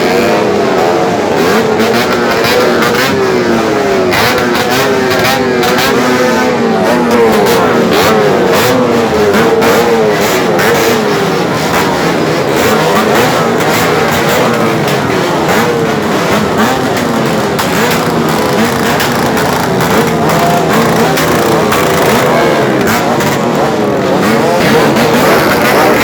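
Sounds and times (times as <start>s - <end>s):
motorcycles revving: 0.0s - 26.0s
exhaust crackles and pops: 1.2s - 26.0s.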